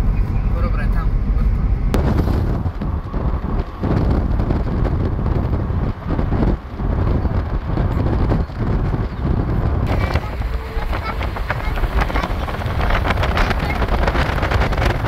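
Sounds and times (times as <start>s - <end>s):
road and engine noise: 0.0s - 15.0s
wind buffeting microphone: 0.0s - 15.0s.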